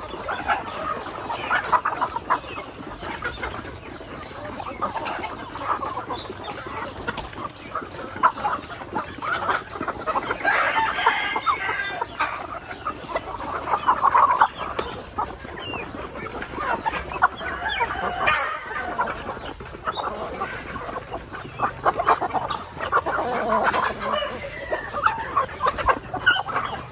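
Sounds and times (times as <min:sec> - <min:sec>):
chickens clucking: 0:00.0 - 0:26.9.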